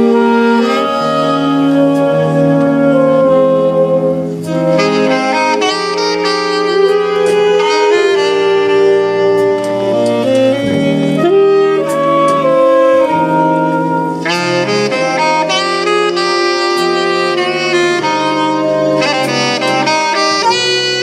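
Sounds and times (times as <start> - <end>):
saxophone ensemble playing chords: 0.0 - 21.0.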